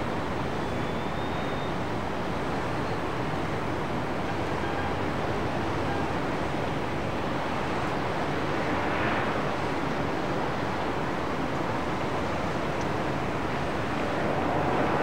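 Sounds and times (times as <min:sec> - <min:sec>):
jet airliner engines: 0:00.0 - 0:15.0.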